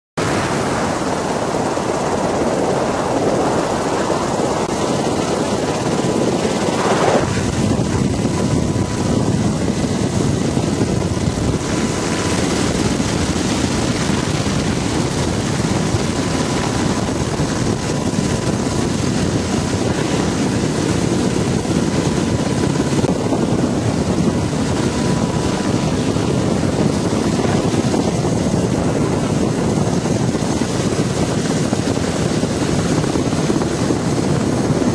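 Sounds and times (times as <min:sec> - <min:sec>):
helicopter running: 0:00.2 - 0:34.9.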